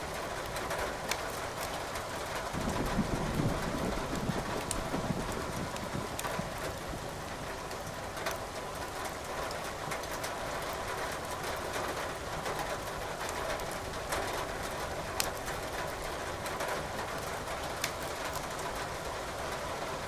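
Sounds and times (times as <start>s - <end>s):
firewood crackling and popping: 0.4s - 11.8s, 12.5s - 18.9s.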